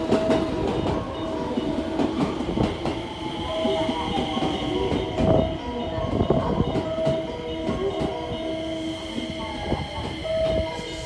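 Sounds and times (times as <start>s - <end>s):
electric train whining: 0.0s - 11.0s.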